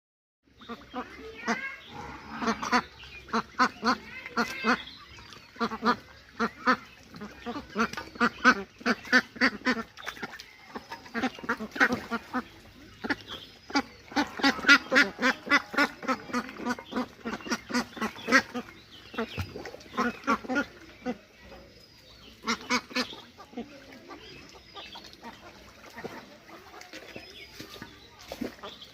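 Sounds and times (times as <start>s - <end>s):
ducklings quacking: 0.5s - 28.9s.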